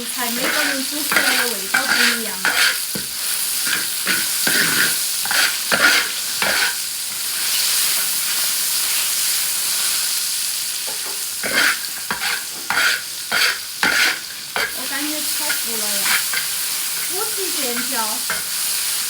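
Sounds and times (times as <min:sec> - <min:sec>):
spatula scraping pan: 0:00.0 - 0:09.0, 0:10.9 - 0:19.0
food sizzling in oil: 0:00.0 - 0:19.0.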